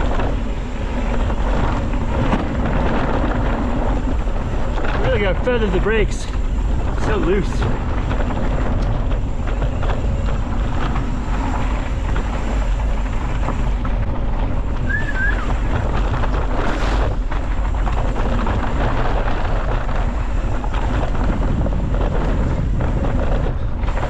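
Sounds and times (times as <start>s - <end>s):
bike tyres crunching on trail: 0.0s - 24.0s
wind buffeting microphone: 0.0s - 24.0s.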